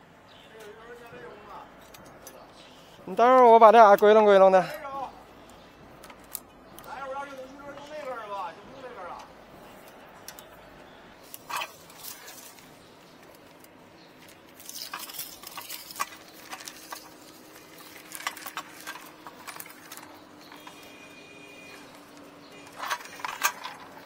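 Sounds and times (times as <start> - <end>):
cables rustling and clicking: 0.6 - 24.0.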